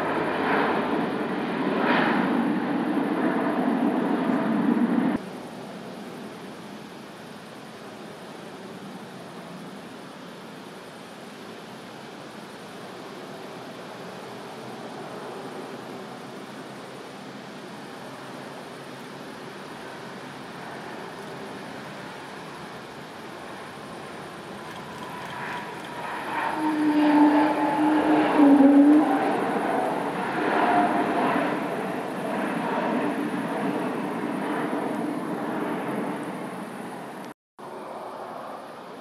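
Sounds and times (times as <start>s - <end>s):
jet airliner engines rolling past: 0.0s - 39.0s.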